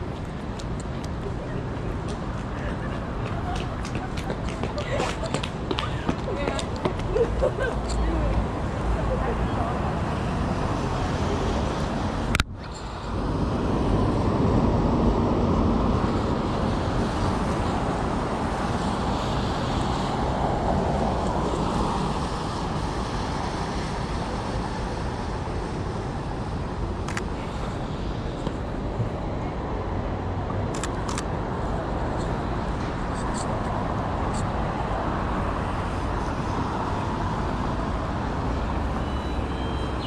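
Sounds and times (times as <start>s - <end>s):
passing cars: 0.0s - 40.0s.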